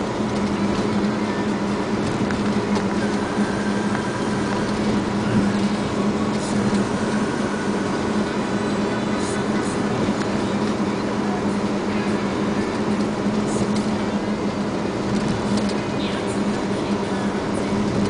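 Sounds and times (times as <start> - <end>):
diesel truck engine running: 0.0 - 18.0
tyre and road noise: 0.0 - 18.0.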